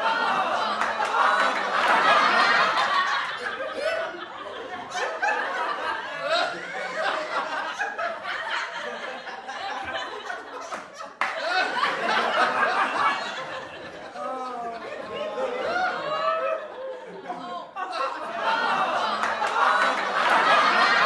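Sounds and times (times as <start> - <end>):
people laughing: 0.0 - 21.0.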